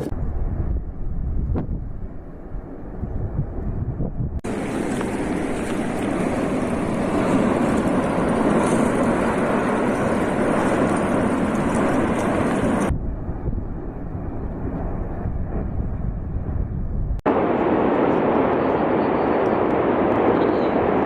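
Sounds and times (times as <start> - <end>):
erupting volcano roar: 0.0 - 21.0.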